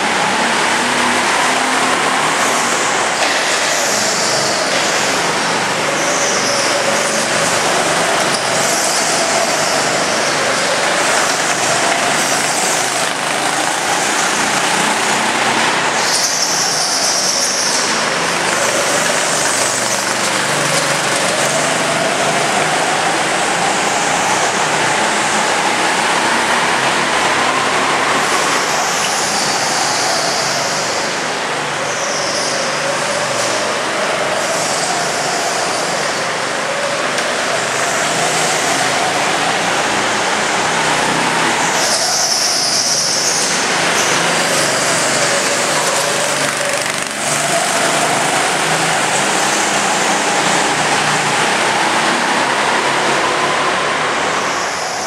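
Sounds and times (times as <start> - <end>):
go-kart engines revving: 0.0 - 55.0.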